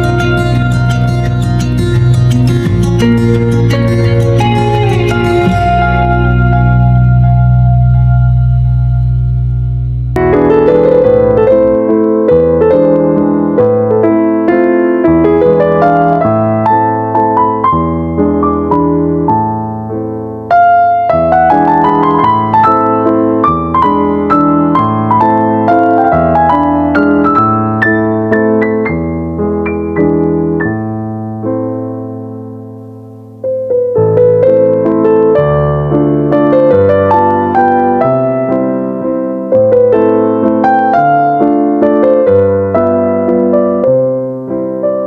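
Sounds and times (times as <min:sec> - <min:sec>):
gentle piano music: 0:00.0 - 0:45.0.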